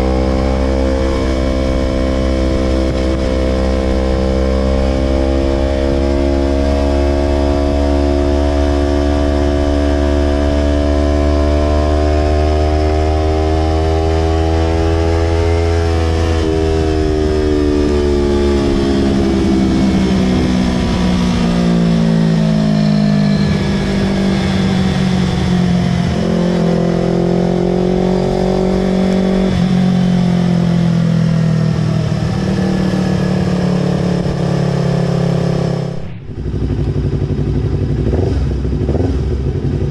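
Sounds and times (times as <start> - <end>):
loud motorcycle engine revving: 0.0 - 39.9.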